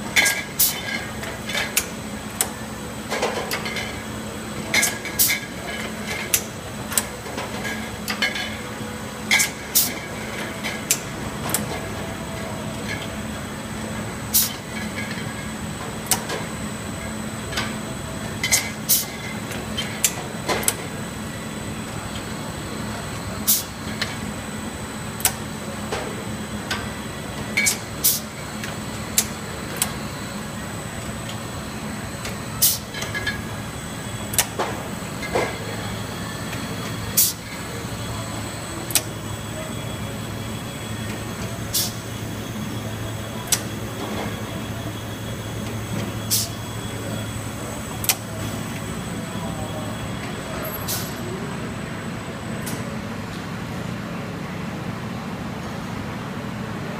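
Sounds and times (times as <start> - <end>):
capping machine clicks and clanks: 0.0 - 21.0, 25.2 - 30.4, 31.0 - 51.2, 52.6 - 53.4
motor hum with high whine: 0.0 - 56.9.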